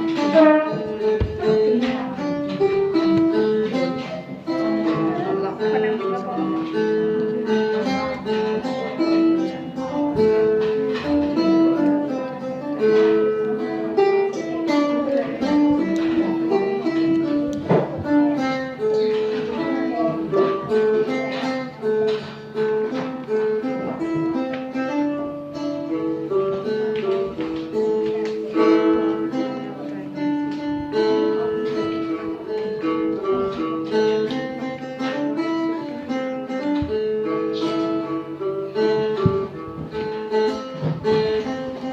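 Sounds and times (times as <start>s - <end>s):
plucked lute melody: 0.0s - 41.9s.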